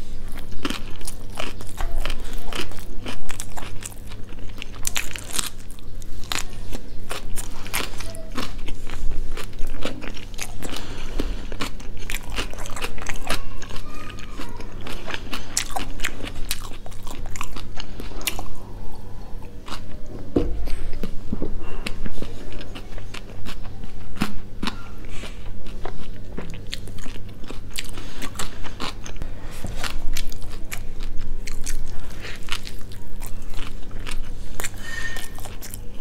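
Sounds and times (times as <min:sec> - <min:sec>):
chewing with crunching and mouth clicks: 0:00.0 - 0:36.0.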